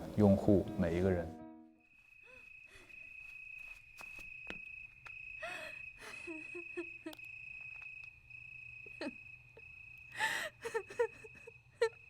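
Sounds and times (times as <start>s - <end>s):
high-pitched insect drone: 1.8s - 12.0s.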